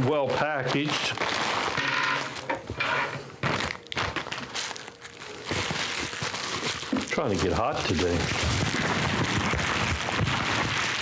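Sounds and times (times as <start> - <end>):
plastic packaging crinkling: 0.2 - 2.5, 3.4 - 11.0.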